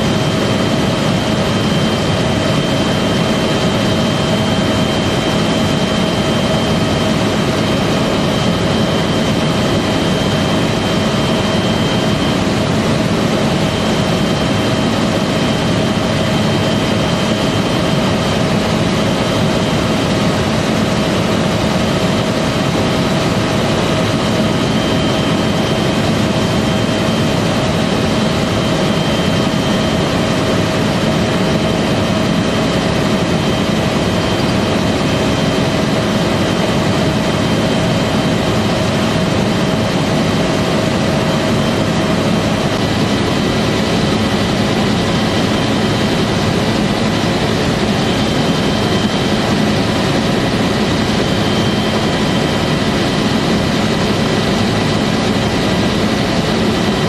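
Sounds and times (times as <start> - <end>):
helicopter engine and rotor rushing: 0.0 - 57.0.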